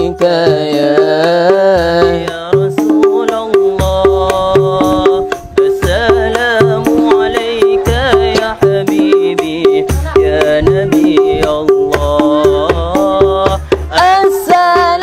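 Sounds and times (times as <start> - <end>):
hand drum beating: 0.0 - 15.0
person singing devotional song: 0.0 - 15.0.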